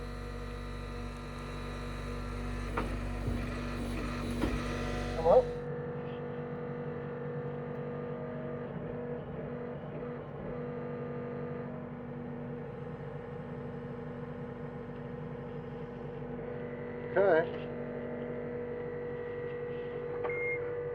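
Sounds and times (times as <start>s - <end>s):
diesel engine running steadily: 0.0s - 20.2s.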